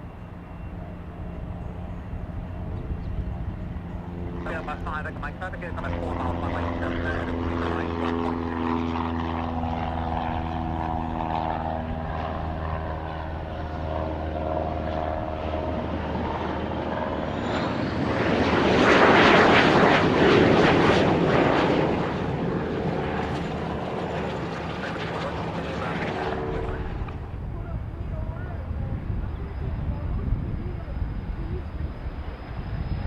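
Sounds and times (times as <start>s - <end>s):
aircraft passing with rushing sound: 0.0s - 33.0s
airplane engine drone: 0.0s - 33.0s.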